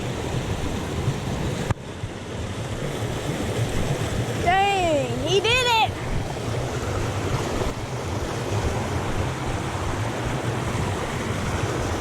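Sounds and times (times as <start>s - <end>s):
creek water rushing: 0.0s - 12.0s
wind rumbling on microphone: 0.0s - 12.0s.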